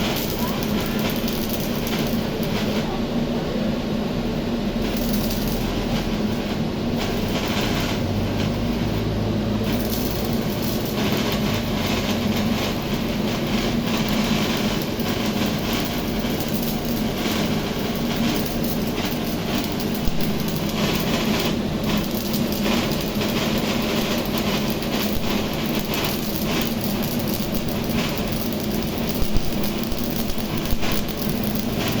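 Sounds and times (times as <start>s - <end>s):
sharp welding pops: 0.0s - 3.0s, 4.8s - 32.0s
welder hum: 0.0s - 3.2s, 4.2s - 32.0s
welding arc crackling and sizzling: 0.0s - 3.3s, 4.1s - 32.0s.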